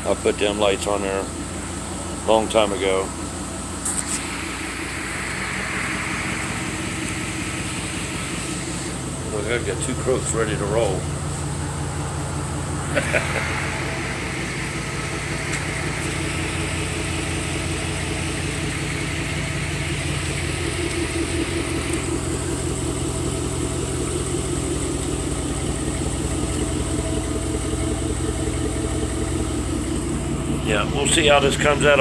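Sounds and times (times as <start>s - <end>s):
engine idling with deep rumble: 0.0s - 32.0s.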